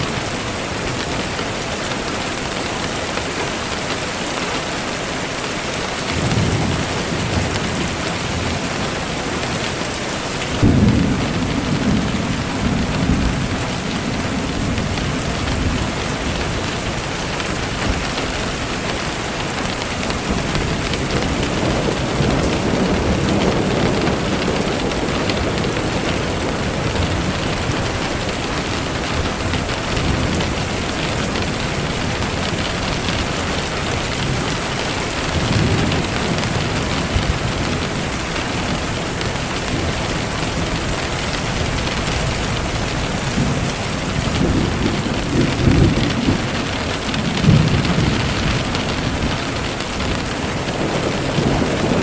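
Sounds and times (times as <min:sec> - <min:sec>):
steady rain: 0:00.0 - 0:52.0
thunder rolling: 0:06.0 - 0:52.0.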